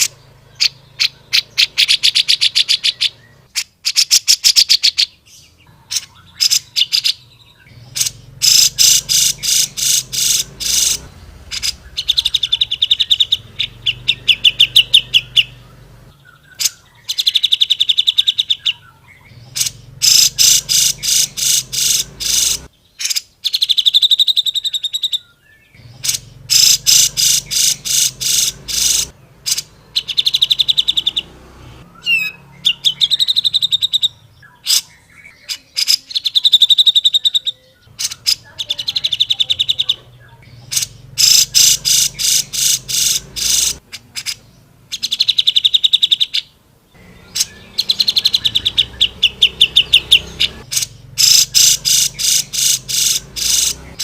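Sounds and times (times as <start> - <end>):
bulbul singing chattering trills: 0.0 - 54.0.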